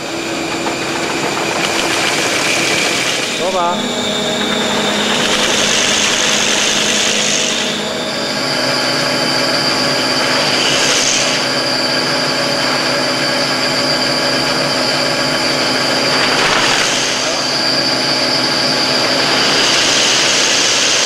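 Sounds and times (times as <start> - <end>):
high-pitched machine whine: 0.0 - 21.0
machine belts and rollers whirring: 0.0 - 21.0.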